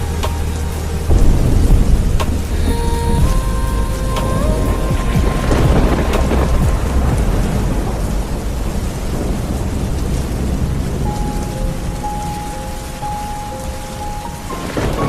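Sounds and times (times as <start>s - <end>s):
crackling roll of thunder: 0.0s - 15.0s
steady rain: 0.0s - 15.0s
thunder rumbling: 0.0s - 15.0s.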